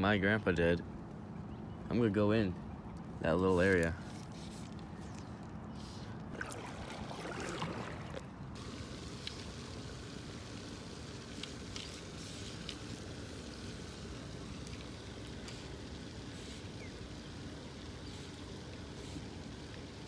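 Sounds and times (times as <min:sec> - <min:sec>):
water and wind rumble: 0:00.0 - 0:20.0.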